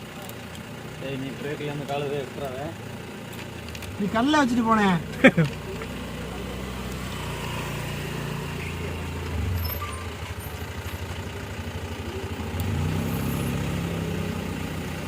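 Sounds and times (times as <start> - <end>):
lorry diesel engine running: 0.0 - 15.0.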